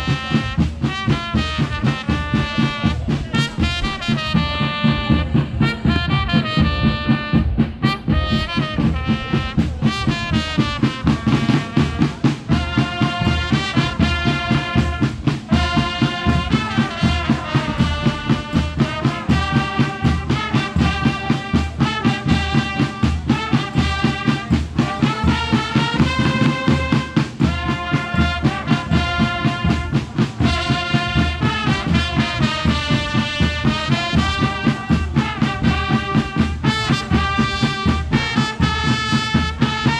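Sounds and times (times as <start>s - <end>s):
marching band playing: 0.0s - 39.9s
steady drum beat: 0.0s - 39.9s.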